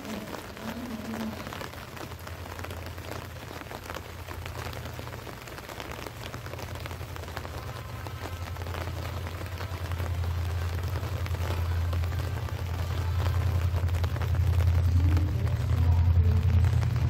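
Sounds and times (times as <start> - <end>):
rain pattering: 0.0 - 17.0
low rumble: 0.7 - 17.0.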